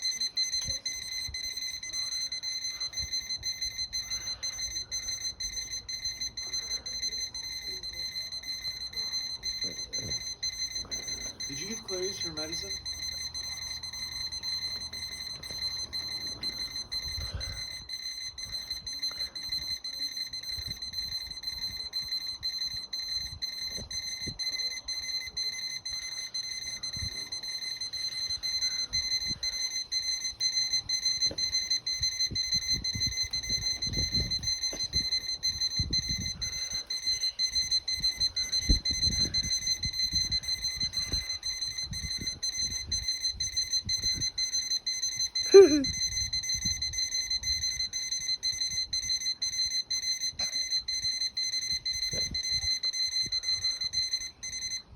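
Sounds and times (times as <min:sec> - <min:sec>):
alarm clock high-pitched tone: 0:00.0 - 0:54.9.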